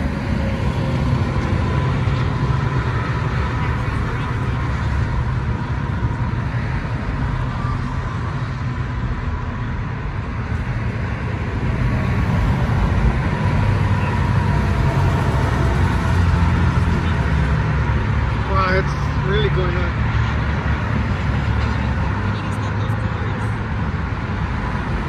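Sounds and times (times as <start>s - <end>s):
freeway traffic passing: 0.0s - 25.0s.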